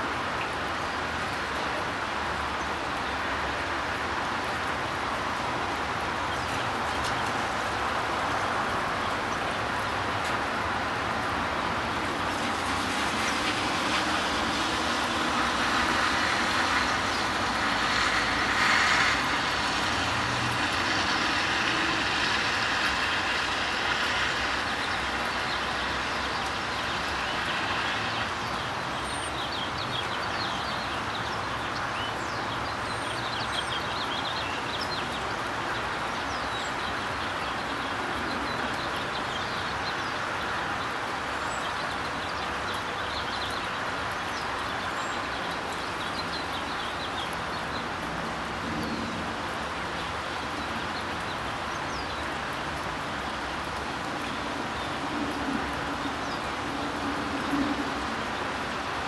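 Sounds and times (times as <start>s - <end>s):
outdoor ambient noise: 0.0s - 59.0s.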